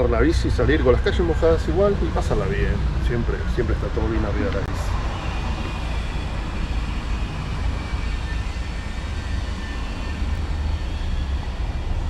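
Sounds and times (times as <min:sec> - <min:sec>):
bicycle road noise: 0:00.0 - 0:12.0.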